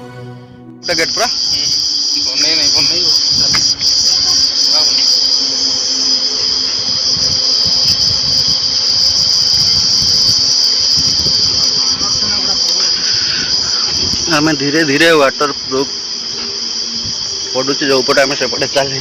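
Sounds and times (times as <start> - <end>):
low rumbling noise: 0.8 - 19.0
shrill insect chorus: 0.8 - 19.0.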